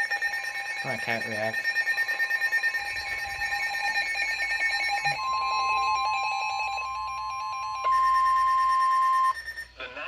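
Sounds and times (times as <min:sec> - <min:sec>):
rapid electronic beeping: 0:00.0 - 0:09.7
steady alarm tone: 0:00.0 - 0:10.0.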